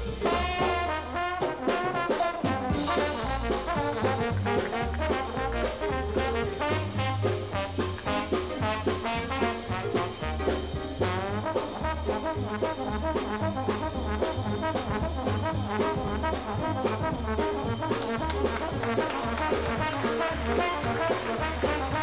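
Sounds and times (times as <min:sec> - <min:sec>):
bass notes: 0:00.0 - 0:22.0
drums keeping a beat: 0:00.0 - 0:22.0
jazz band playing: 0:00.0 - 0:22.0
slide trombone jazz solo: 0:00.0 - 0:22.0.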